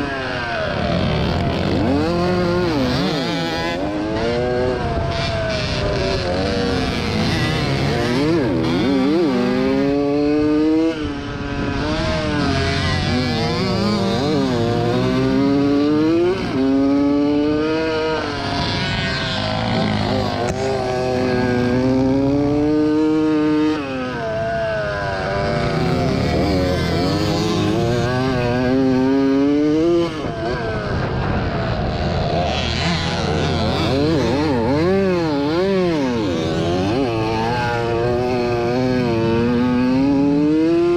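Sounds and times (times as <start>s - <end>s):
two-stroke motocross bike revving: 0.0s - 40.9s.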